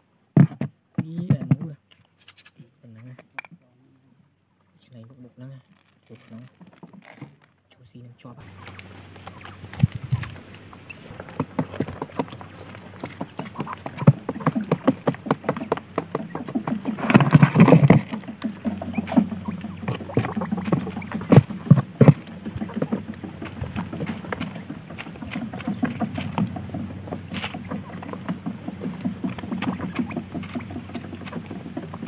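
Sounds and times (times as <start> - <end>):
quail pecking and scratching: 0.4 - 4.0, 4.8 - 32.0.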